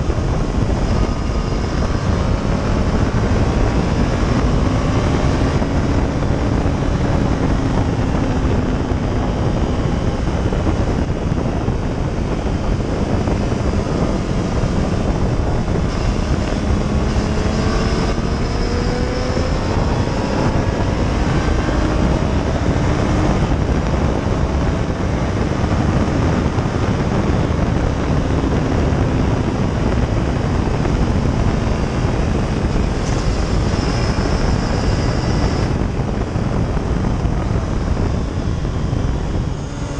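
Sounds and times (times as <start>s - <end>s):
motorcycle engine running hard: 0.0s - 39.9s
wind noise on microphone: 0.0s - 39.9s.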